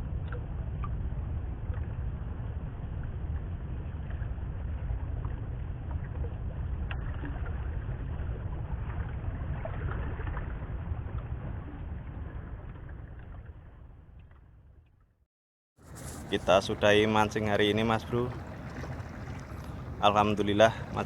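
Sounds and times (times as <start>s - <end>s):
water rumbling: 0.0s - 15.2s, 15.8s - 21.0s
wind at sea: 0.0s - 15.2s, 15.8s - 21.0s.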